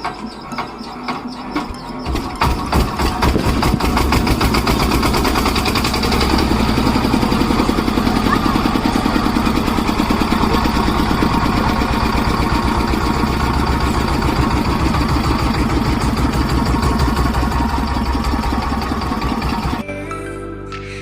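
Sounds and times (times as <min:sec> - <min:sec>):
old diesel engine running: 0:00.0 - 0:19.8.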